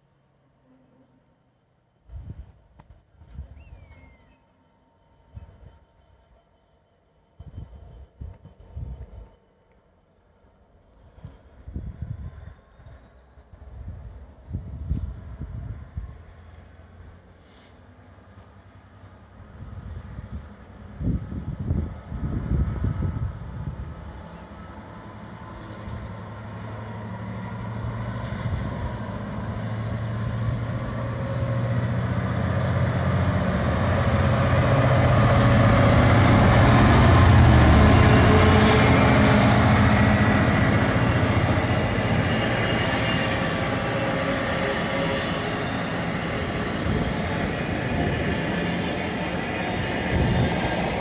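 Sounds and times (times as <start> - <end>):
diesel locomotive engine passing: 0.0 - 51.0.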